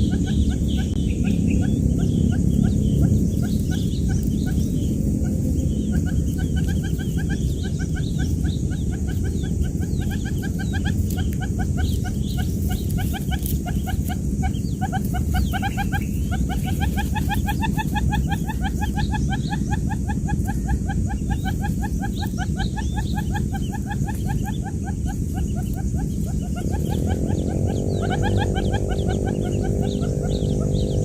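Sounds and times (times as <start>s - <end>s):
quail chicks peeping: 0.0s - 31.0s
steady low hum: 0.0s - 31.0s.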